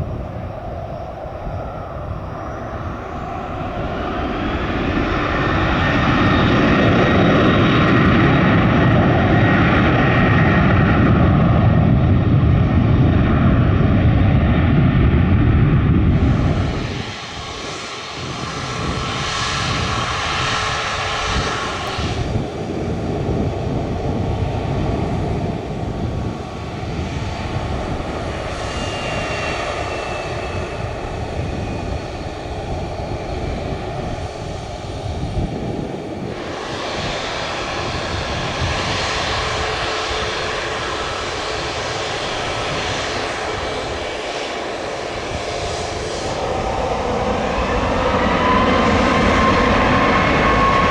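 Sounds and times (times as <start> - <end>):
airliner engines roaring: 0.0 - 50.9.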